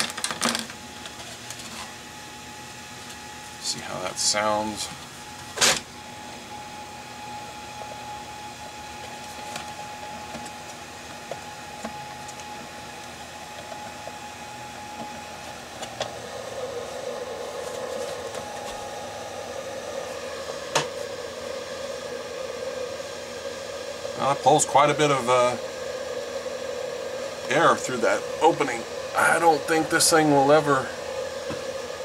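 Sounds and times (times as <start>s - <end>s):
cooling fan air rush: 0.0s - 32.0s
thin fan whine: 0.0s - 32.0s.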